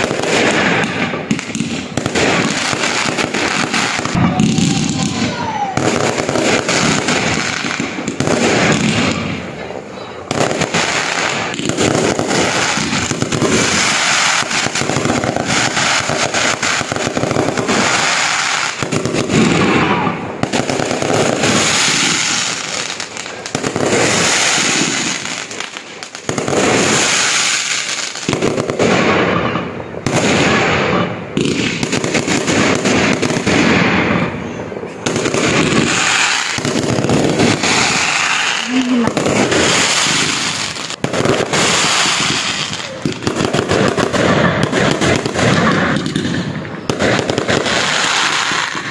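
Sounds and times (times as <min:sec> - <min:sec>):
fireworks crackling and popping: 0:00.0 - 0:48.9.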